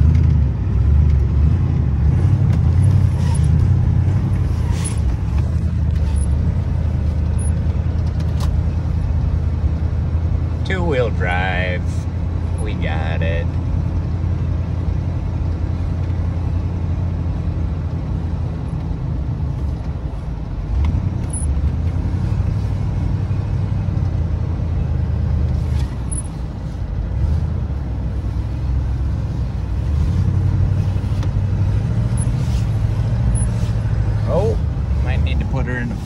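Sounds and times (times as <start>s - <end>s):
car engine droning while driving: 0.0s - 36.0s.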